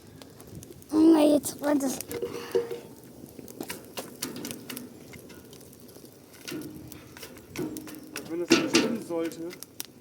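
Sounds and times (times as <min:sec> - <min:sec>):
campfire crackling: 0:00.0 - 0:10.0
wood snapping in fire: 0:00.0 - 0:10.0.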